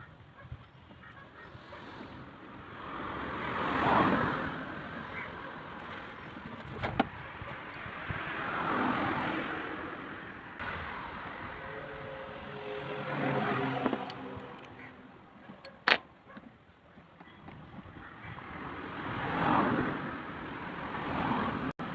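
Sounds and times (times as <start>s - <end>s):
vehicles passing by: 0.1s - 21.9s.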